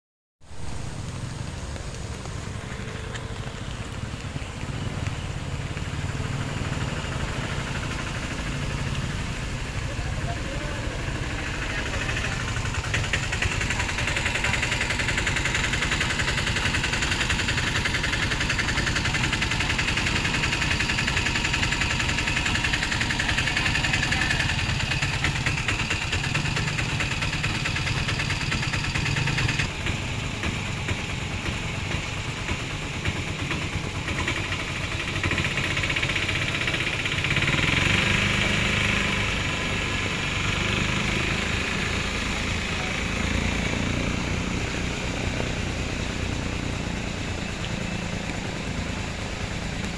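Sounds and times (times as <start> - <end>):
vehicle engine running: 0.4 - 49.9.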